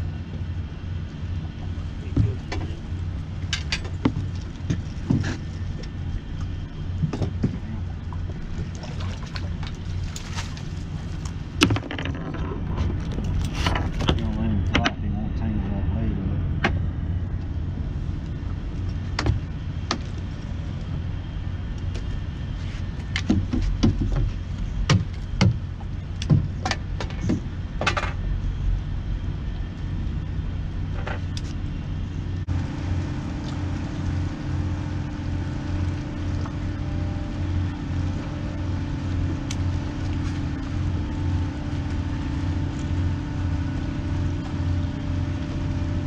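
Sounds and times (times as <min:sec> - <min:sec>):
boat engine drone: 0:00.0 - 0:46.0.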